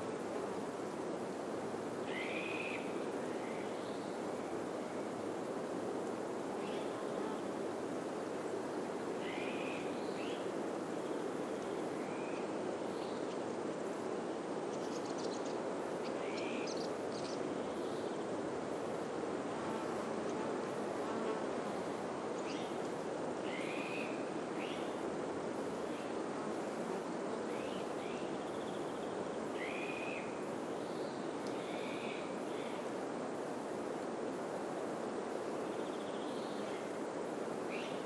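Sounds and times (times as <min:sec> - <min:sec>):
wind through pine trees: 0:00.0 - 0:38.0.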